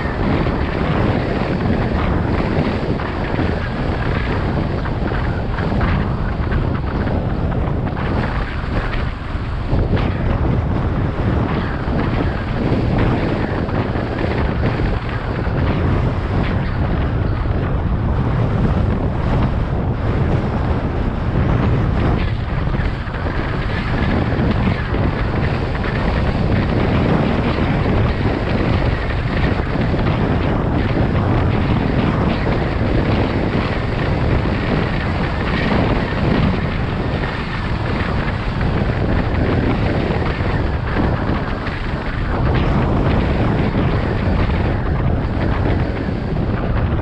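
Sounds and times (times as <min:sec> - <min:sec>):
road noise rumble: 0:00.0 - 0:47.0
wind buffeting microphone: 0:00.0 - 0:47.0.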